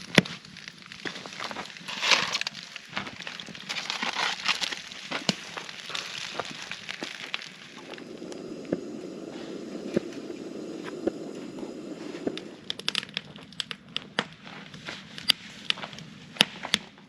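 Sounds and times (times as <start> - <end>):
campfire crackling and popping: 0.0 - 17.0
fire hissing: 0.0 - 17.0.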